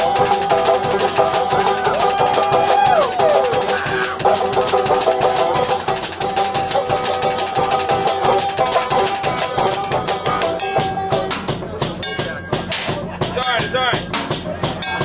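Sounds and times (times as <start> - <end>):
banjo: 0.0 - 15.0
drum kit beat: 0.0 - 15.0
held notes: 0.0 - 15.0.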